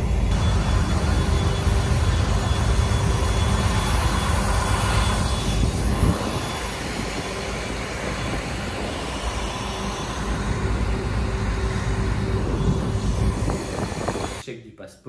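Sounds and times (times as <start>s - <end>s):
boat engine droning: 0.0s - 14.4s.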